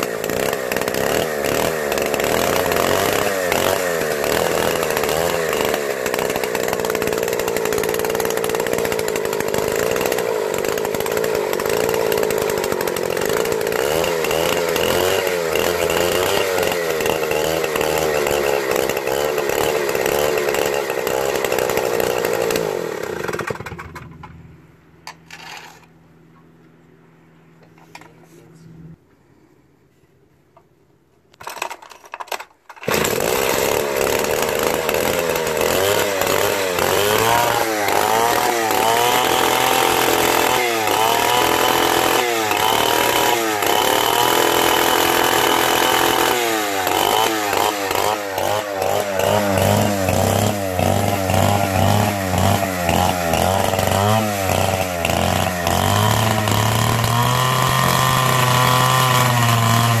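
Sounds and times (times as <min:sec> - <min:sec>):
chainsaw starting and revving: 0:00.0 - 0:24.4, 0:25.1 - 0:26.0, 0:31.4 - 1:00.0.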